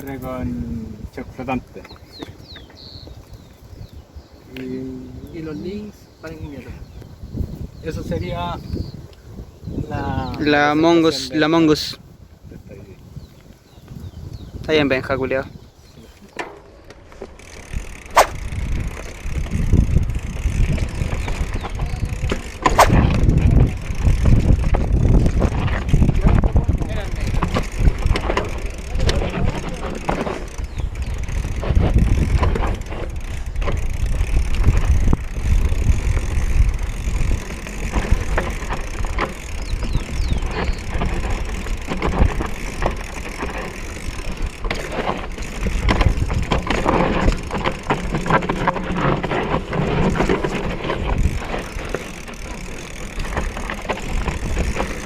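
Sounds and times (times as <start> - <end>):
bike knocking and rattling: 0.0 - 11.9, 13.2 - 55.0
bike tyres rumbling on dirt: 0.0 - 55.0.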